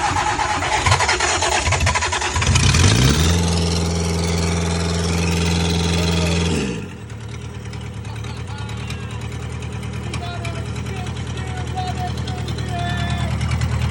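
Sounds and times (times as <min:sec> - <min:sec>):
diesel engine cranking and running: 0:00.0 - 0:13.9.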